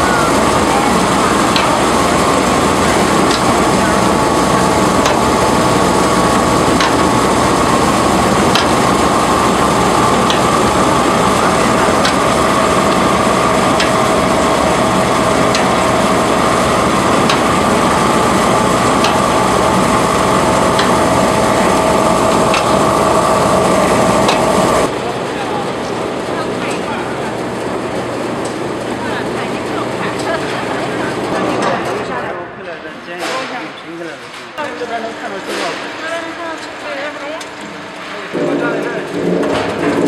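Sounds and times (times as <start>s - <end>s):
potato washing machine running: 0.0s - 32.4s, 34.6s - 40.0s
machine whine: 0.0s - 33.2s, 34.6s - 40.0s.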